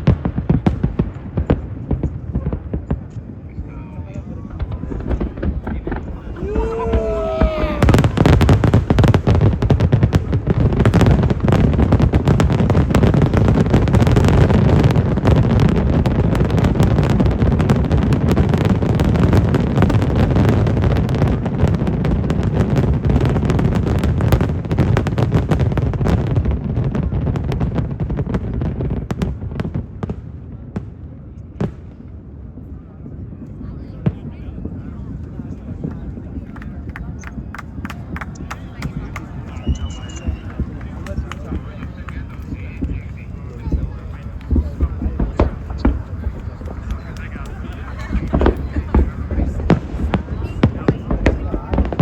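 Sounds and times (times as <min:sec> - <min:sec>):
fireworks bangs: 0:00.0 - 0:52.0.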